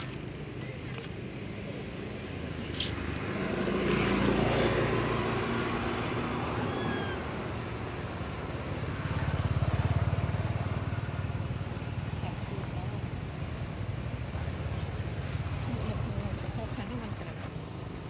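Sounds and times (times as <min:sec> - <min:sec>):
vehicles passing on road: 0:00.0 - 0:18.0.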